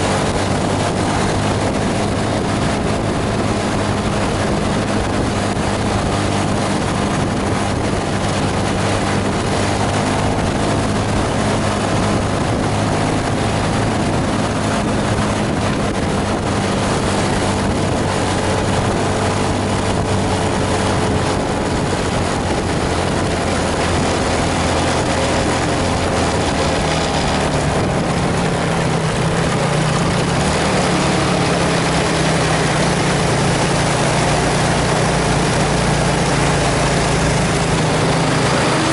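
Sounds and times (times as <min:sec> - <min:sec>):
diesel bus engine running: 0:00.0 - 0:38.9.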